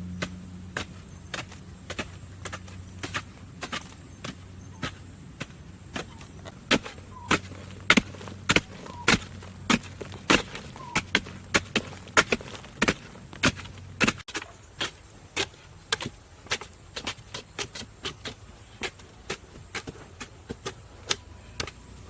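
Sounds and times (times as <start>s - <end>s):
blade chopping wood: 0.2s - 21.9s.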